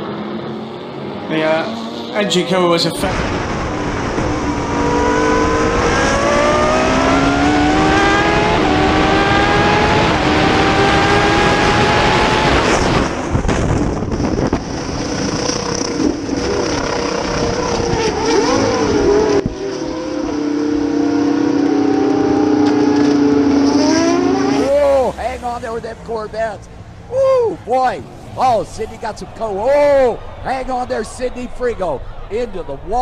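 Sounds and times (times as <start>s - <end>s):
race car engines at high revs: 0.0s - 30.4s.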